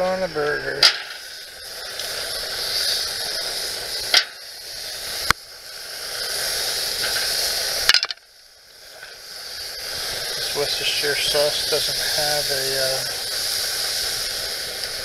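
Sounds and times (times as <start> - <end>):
patties sizzling on grill: 0.0 - 15.0.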